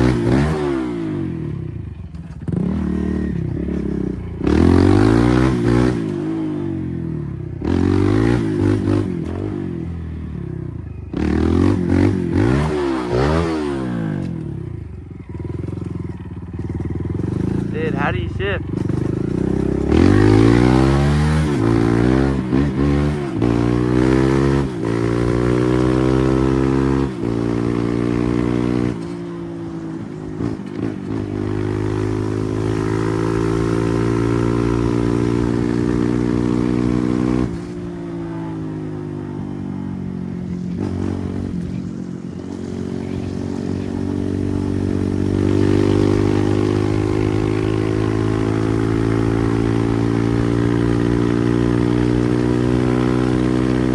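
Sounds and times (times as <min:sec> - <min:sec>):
dirt bike engine revving: 0:00.0 - 0:01.4, 0:02.2 - 0:09.9, 0:11.1 - 0:39.2, 0:40.4 - 0:53.9.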